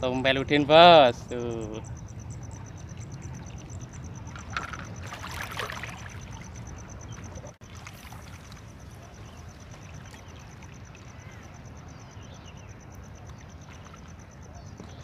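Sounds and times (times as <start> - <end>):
insect chirping: 0.0 - 15.0
water splashing and trickling: 0.8 - 14.6.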